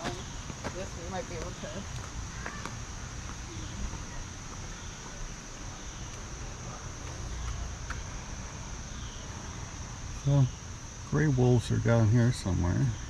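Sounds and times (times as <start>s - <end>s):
chorus of insects: 0.0s - 13.0s.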